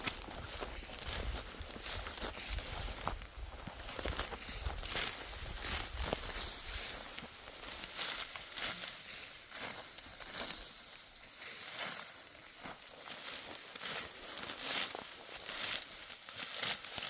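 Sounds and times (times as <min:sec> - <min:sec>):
dry wheat stalks being cut: 0:00.0 - 0:17.0.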